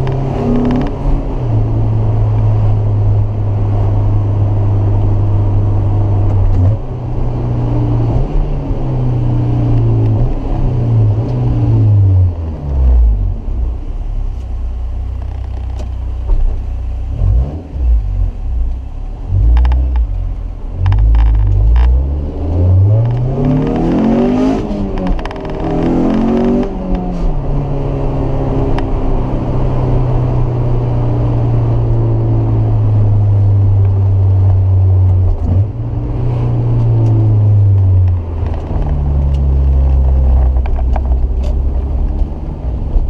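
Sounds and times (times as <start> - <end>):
car engine revving: 0.0 - 13.8, 15.2 - 43.0.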